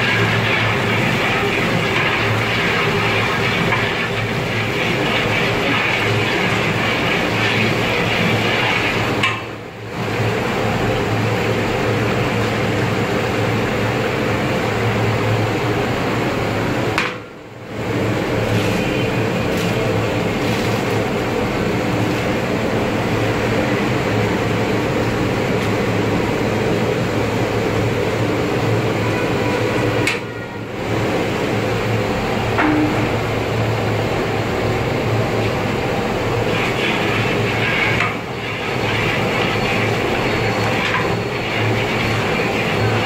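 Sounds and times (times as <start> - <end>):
steady rushing noise with low hum: 0.0 - 28.8, 30.8 - 43.0.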